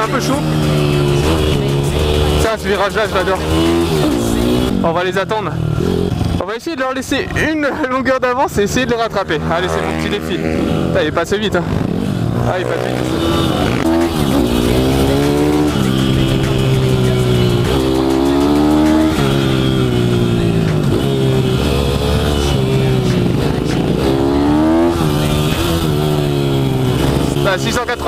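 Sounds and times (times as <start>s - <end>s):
motorbike engine revving: 0.0s - 6.5s, 8.3s - 28.0s.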